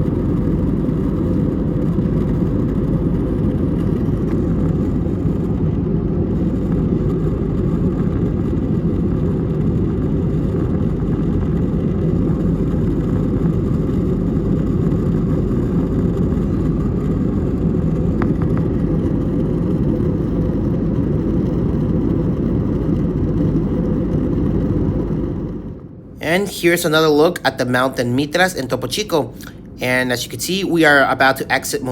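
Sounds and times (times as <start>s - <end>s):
airplane cabin engine rumble: 0.0s - 31.9s.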